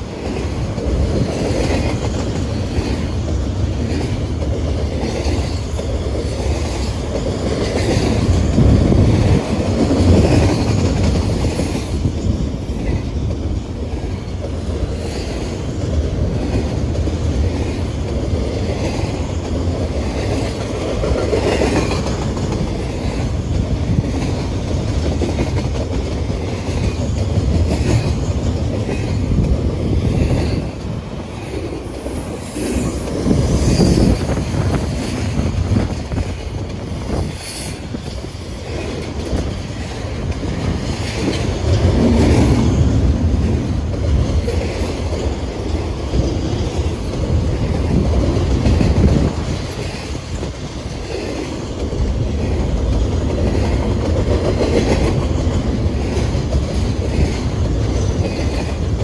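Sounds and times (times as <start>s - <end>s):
freight train wheels rumbling on rail: 0.0s - 59.0s
wheels clicking over rail joints: 0.0s - 59.0s.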